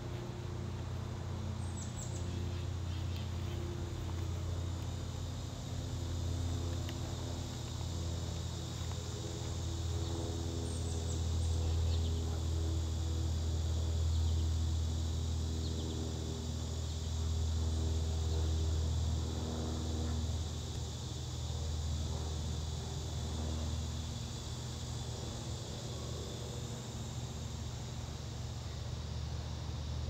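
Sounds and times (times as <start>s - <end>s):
low engine-like hum: 0.0s - 30.0s
insect chirring: 0.1s - 30.0s.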